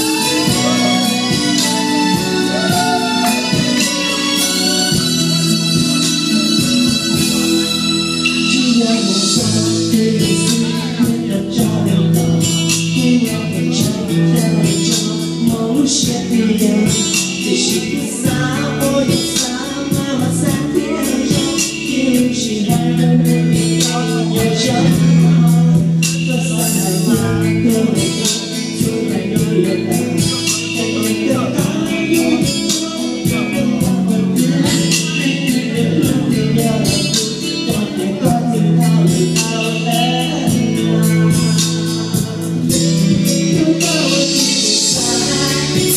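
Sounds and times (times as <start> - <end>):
backing music with steady beat: 0.0 - 45.9
man singing into a microphone: 0.0 - 45.9.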